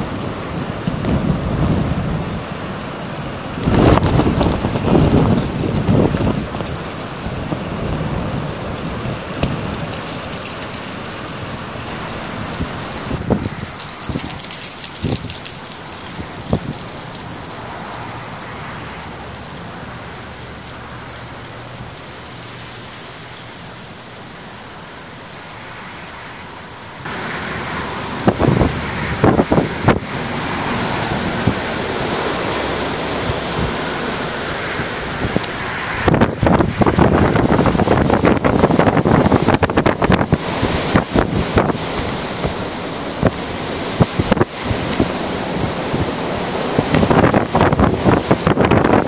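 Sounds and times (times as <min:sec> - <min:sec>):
strong wind through trees: 0:00.0 - 0:49.0.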